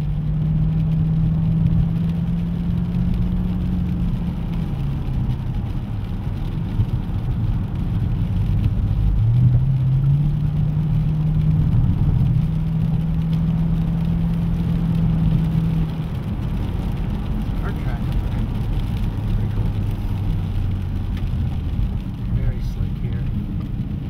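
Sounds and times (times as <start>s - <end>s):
car engine under power: 0.0s - 24.0s.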